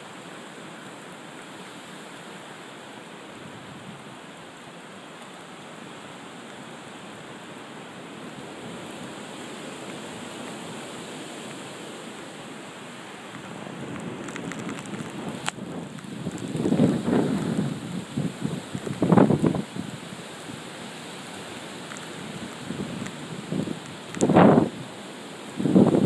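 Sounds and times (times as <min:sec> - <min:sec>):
wind rushing through trees: 0:00.0 - 0:26.0.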